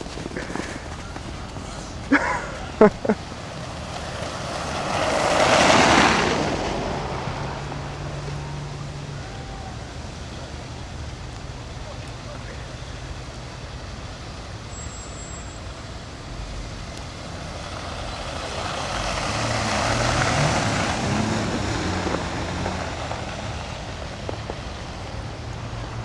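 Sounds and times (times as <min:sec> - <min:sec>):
vehicle driving past: 0:00.0 - 0:10.6, 0:15.6 - 0:26.0.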